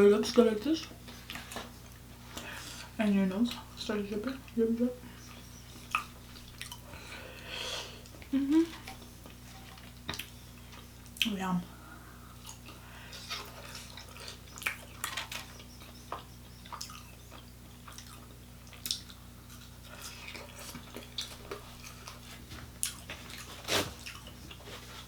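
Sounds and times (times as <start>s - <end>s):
faint electrical hum: 0.0s - 25.0s
chewing: 3.5s - 11.3s, 12.3s - 25.0s.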